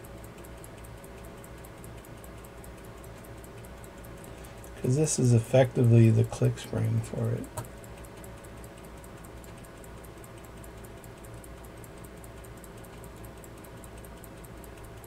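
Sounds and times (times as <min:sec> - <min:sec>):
pocket watch ticking: 0:00.0 - 0:15.0.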